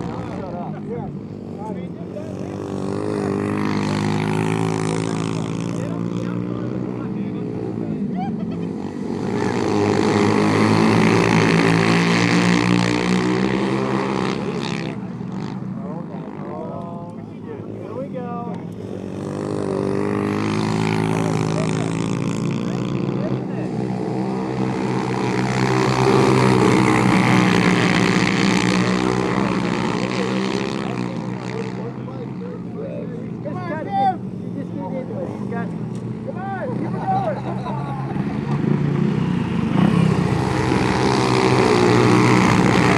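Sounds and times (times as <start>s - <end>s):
passing motor vehicle engine: 0.0s - 42.9s.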